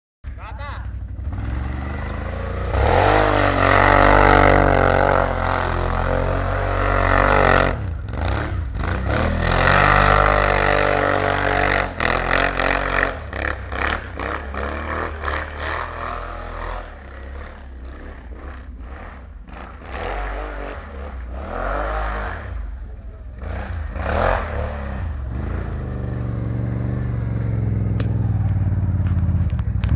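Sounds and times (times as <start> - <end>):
atv engine revving: 0.3 - 29.9.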